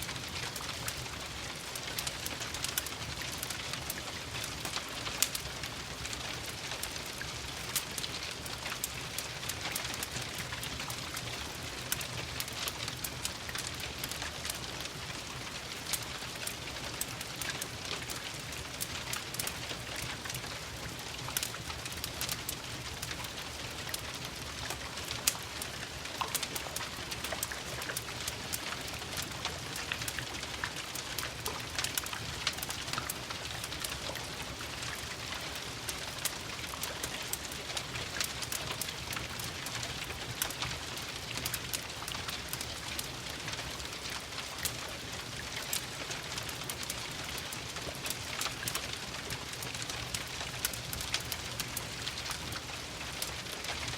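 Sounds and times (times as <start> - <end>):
steady rain: 0.0 - 53.9
wood fire crackling: 0.0 - 53.9.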